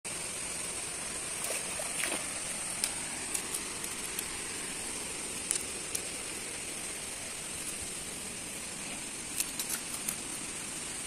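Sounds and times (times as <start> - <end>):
river water hissing: 0.1 - 11.0.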